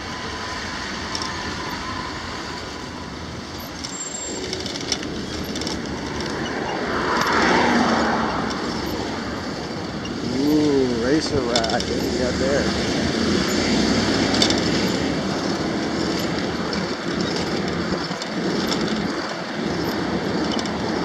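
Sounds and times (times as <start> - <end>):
road traffic noise: 0.0 - 21.0
rushing air: 0.0 - 21.0.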